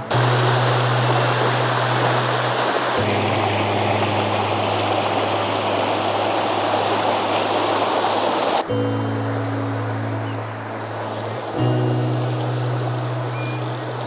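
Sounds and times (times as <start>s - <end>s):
background music with low notes: 0.0s - 7.9s, 8.6s - 14.0s
stream rushing over rocks: 0.0s - 14.0s.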